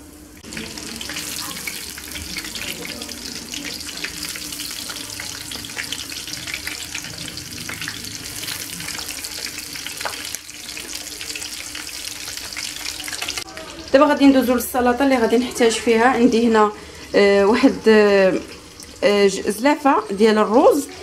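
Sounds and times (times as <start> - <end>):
nuggets frying in hot oil: 0.0 - 21.0.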